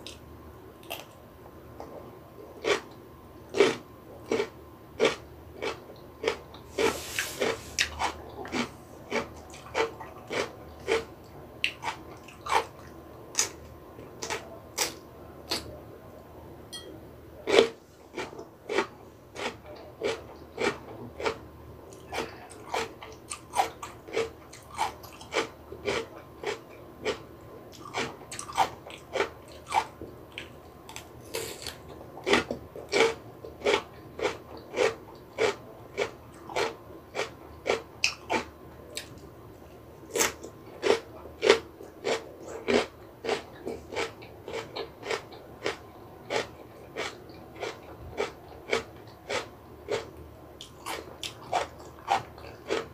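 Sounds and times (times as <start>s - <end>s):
person chewing crunchy food: 2.6s - 15.7s, 17.4s - 39.2s, 40.1s - 52.9s.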